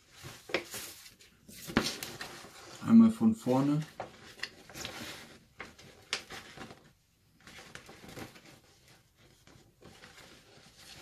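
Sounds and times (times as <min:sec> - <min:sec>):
paper poster rustling and crinkling: 0:00.0 - 0:11.0.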